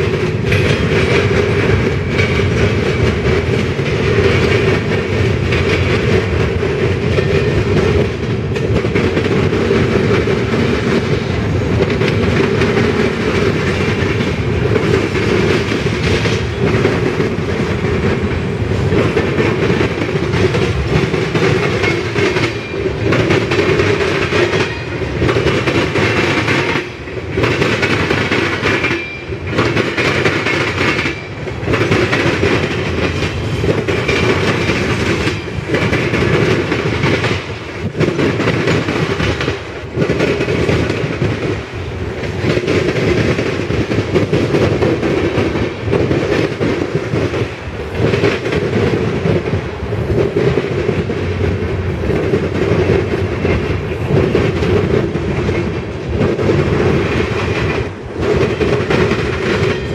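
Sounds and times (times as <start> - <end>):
freight train rolling past: 0.0 - 59.9
steel wheels clacking: 0.0 - 59.9.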